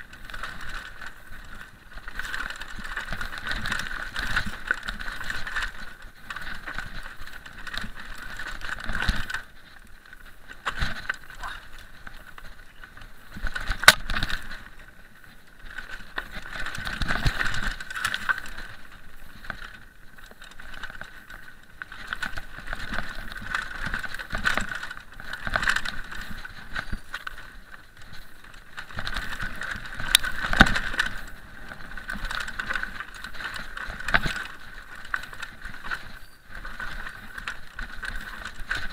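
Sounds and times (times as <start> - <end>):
bike rattling: 0.0 - 38.9
tyres rolling over stones: 0.0 - 38.9.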